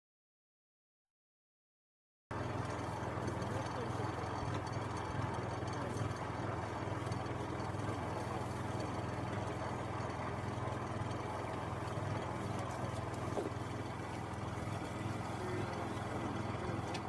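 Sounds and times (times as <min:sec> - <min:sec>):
engine humming: 0:02.3 - 0:17.0.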